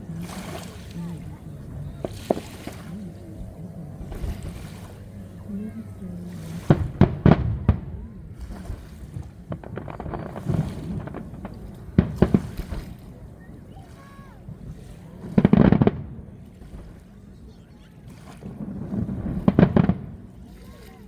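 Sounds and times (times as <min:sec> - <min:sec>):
fireworks crackling: 0:00.0 - 0:06.0, 0:06.6 - 0:17.0, 0:18.4 - 0:21.0
fireworks bangs: 0:00.3 - 0:17.1, 0:18.3 - 0:21.0.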